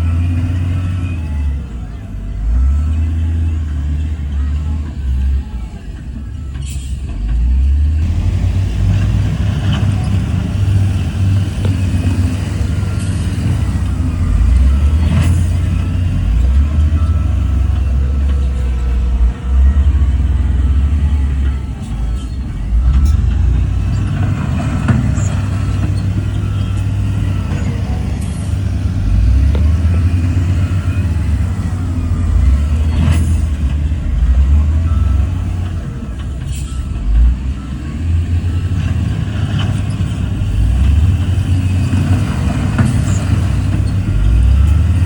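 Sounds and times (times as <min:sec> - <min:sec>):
heavy diesel machinery rumbling: 0:00.0 - 0:45.0.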